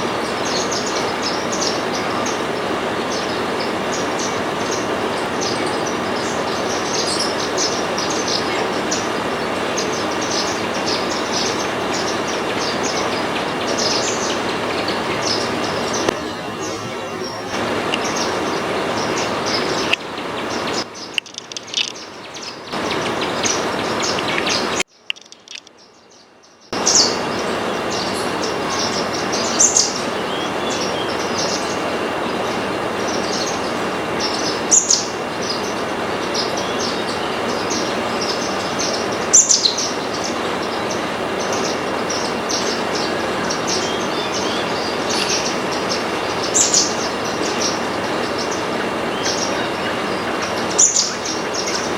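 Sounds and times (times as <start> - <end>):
birds chirping: 0.0 - 51.9
noisy background hum: 0.0 - 51.9.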